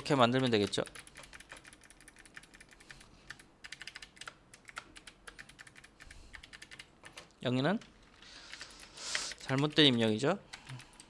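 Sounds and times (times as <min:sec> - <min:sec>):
keyboard typing: 0:00.0 - 0:11.0.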